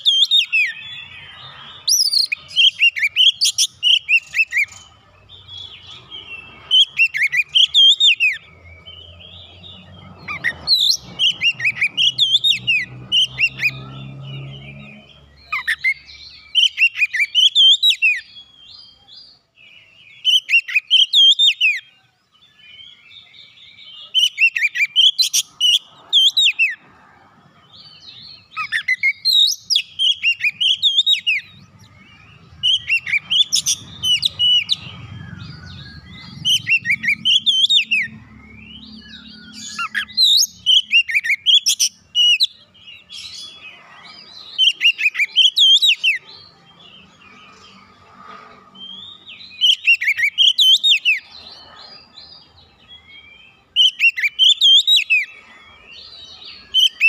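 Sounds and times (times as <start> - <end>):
bird singing whistles and chirps: 0.0 - 26.8, 27.6 - 57.0.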